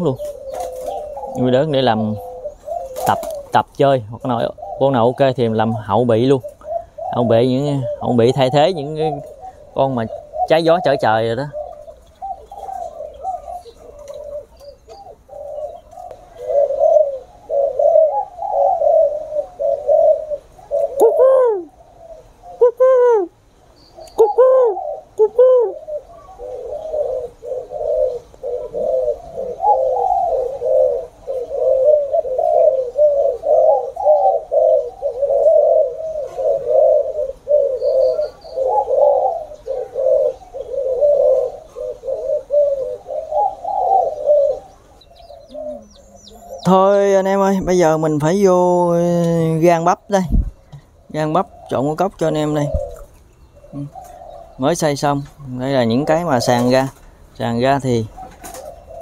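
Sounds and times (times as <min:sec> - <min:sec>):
doves cooing: 0:00.0 - 0:59.0
louder bird calls rising and falling: 0:04.2 - 0:59.0.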